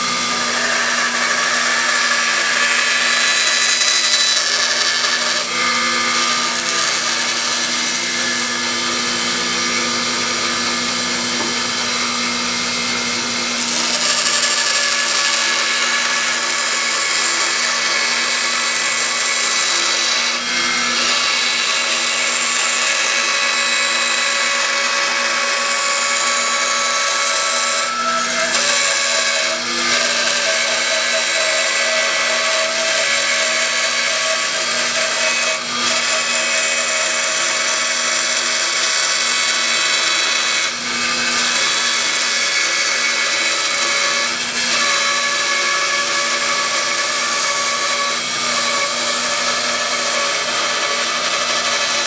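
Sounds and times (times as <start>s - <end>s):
band saw cutting wood: 0.0s - 52.0s.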